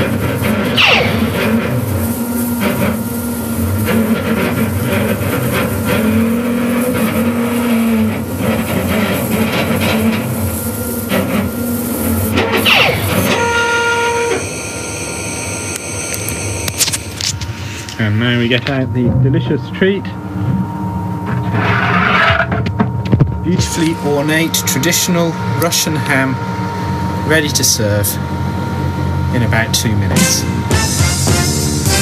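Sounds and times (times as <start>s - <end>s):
drive motors whining: 0.0s - 32.0s
laser engraver hiss and hum: 0.0s - 32.0s.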